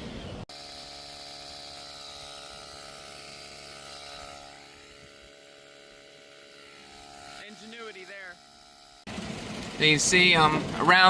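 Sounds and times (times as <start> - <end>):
mechanical motor hum: 0.0 - 11.0.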